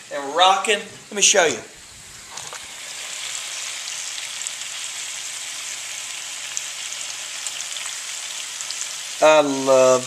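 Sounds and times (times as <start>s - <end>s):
peppers sizzling in oil: 0.0s - 10.0s.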